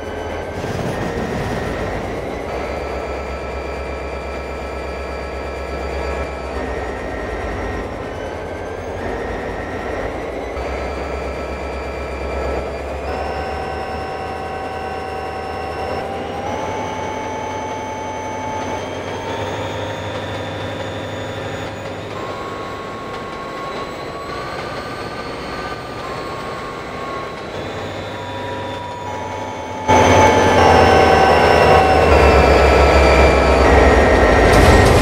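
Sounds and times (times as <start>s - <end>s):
train whine rising in pitch: 0.0s - 35.0s.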